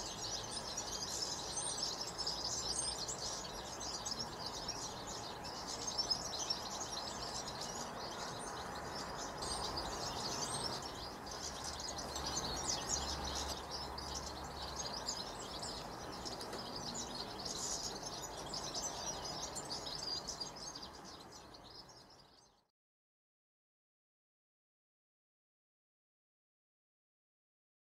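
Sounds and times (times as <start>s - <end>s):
goldfinches twittering: 0.0s - 22.4s.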